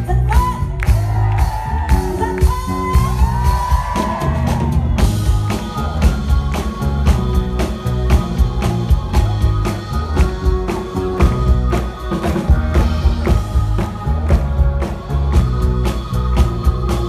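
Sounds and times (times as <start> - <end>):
drum kit beat: 0.0 - 17.0
pop-soul band playing: 0.0 - 17.0.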